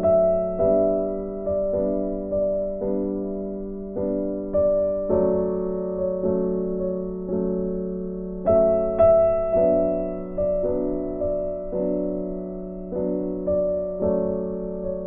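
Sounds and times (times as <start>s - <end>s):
soft electric piano chords: 0.0s - 15.0s.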